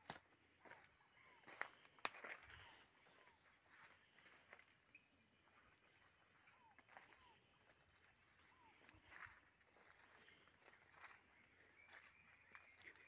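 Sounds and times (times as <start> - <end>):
footsteps through vegetation: 0.0 - 13.0.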